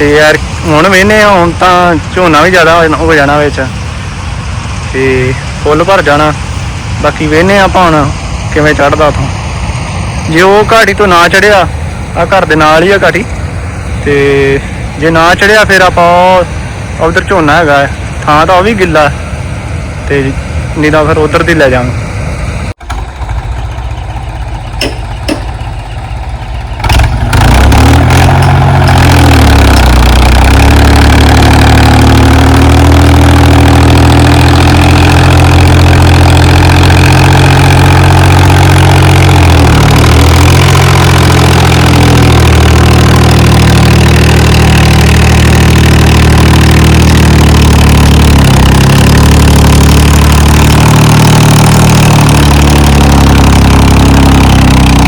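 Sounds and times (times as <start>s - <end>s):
tractor diesel engine: 0.0s - 55.0s.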